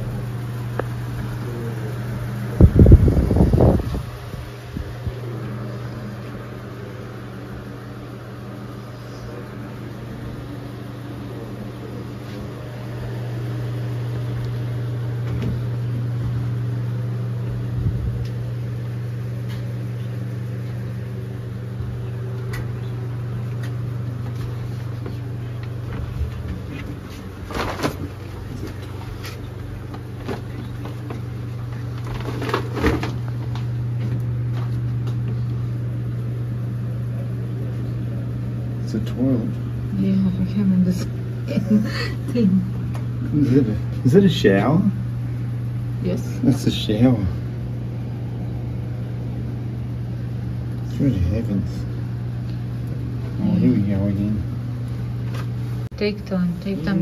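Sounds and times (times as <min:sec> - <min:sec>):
ventilation fan humming: 0:00.0 - 0:57.0.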